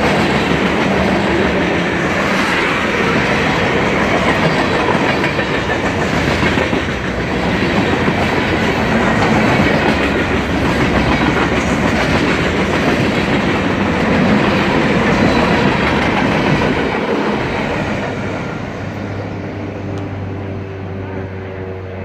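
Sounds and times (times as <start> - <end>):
freight train wheels clattering: 0.0 - 19.1.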